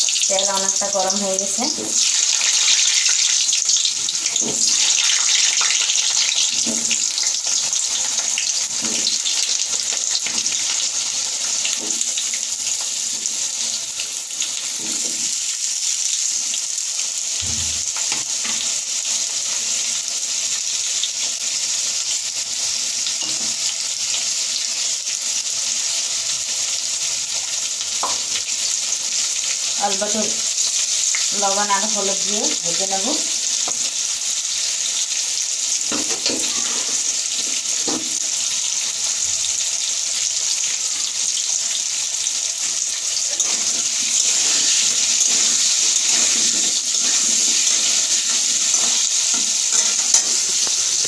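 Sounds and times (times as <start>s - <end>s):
potatoes sizzling in hot oil: 0.0s - 51.0s.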